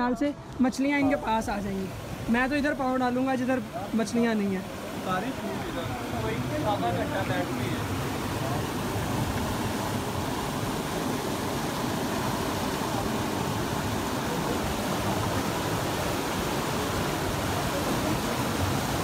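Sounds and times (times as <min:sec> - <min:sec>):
waterfall splashing over rocks: 0:01.1 - 0:19.0.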